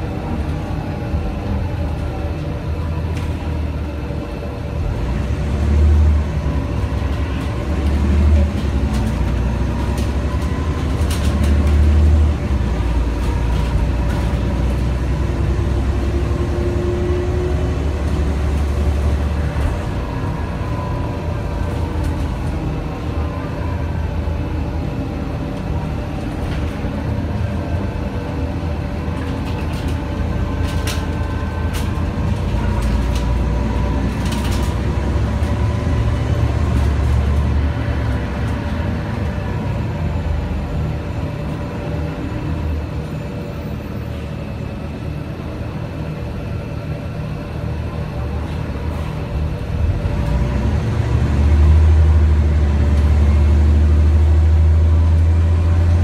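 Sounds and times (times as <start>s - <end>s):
bus engine droning with whine: 0.0s - 56.0s.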